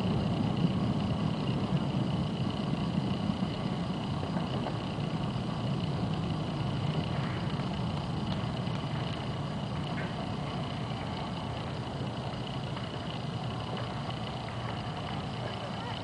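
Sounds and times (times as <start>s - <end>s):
distant city traffic: 0.0s - 16.0s.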